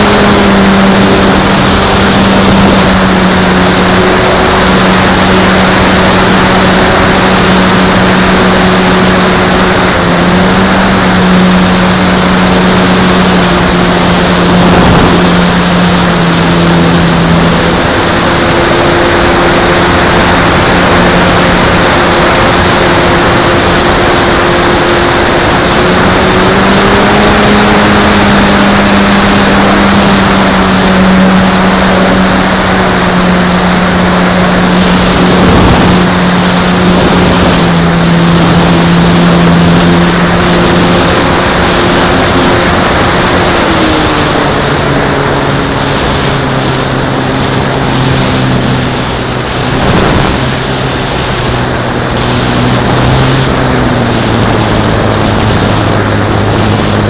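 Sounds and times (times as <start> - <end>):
model airplane motor and propeller: 0.0 - 57.0
wind rush: 0.0 - 57.0.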